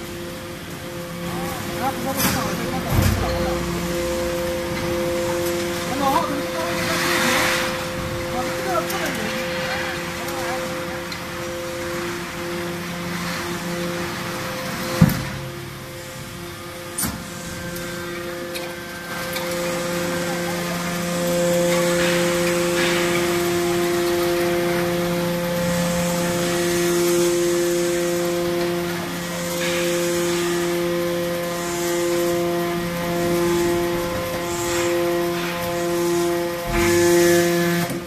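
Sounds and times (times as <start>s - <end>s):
hydraulic pump humming: 0.0s - 38.0s
metal scraping: 0.9s - 38.0s.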